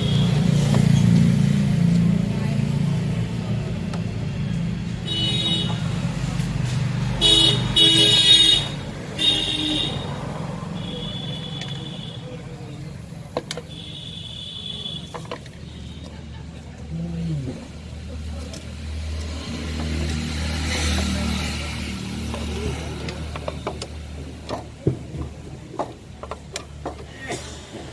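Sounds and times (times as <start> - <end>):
road traffic: 0.0 - 27.9.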